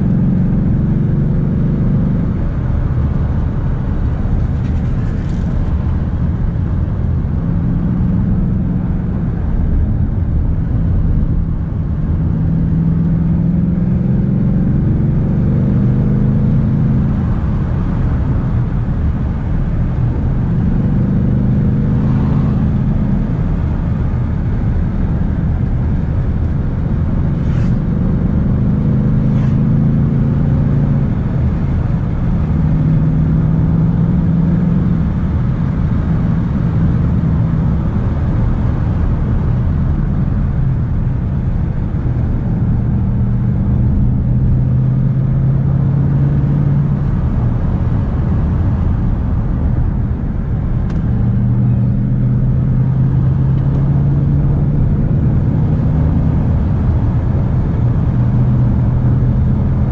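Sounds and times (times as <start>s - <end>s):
car engine revving: 0.0s - 59.9s
tyre and road noise: 0.0s - 59.9s.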